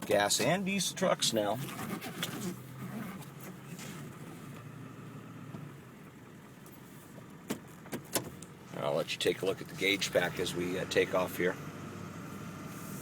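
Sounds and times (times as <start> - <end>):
diesel engine idling: 2.6 - 13.0.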